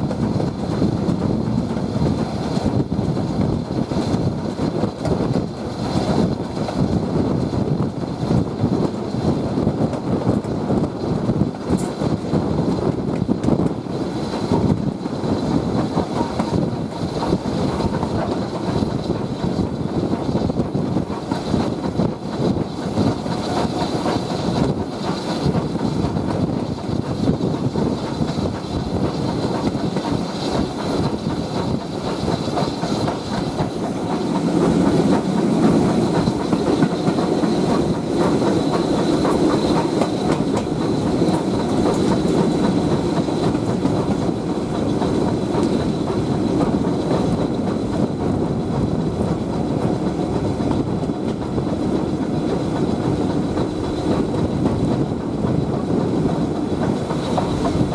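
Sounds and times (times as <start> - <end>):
rumble of train coaches: 0.0 - 57.9
wheels clicking over rails: 0.0 - 57.9.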